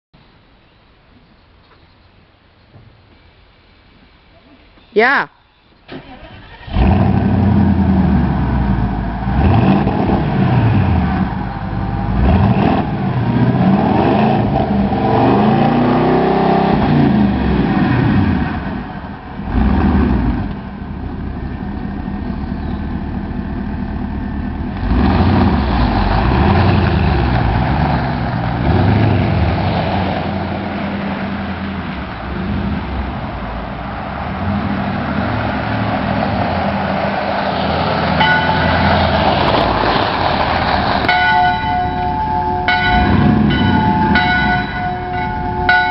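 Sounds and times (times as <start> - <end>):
car engine revving: 6.0 - 45.9.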